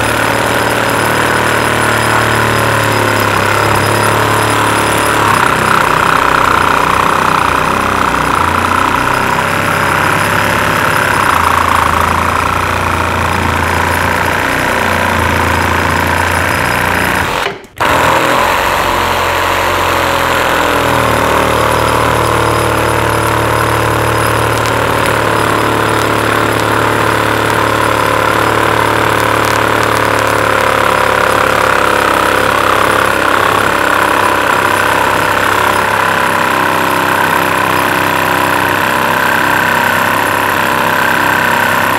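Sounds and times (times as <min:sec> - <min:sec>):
reciprocating saw cutting: 0:00.0 - 0:41.9.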